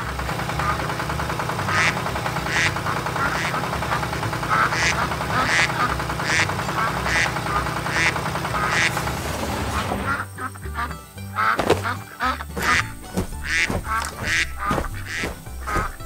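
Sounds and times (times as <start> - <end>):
tractor engine running: 0.0 - 16.0
duck quacks: 0.5 - 0.9, 1.6 - 9.0, 9.8 - 16.0.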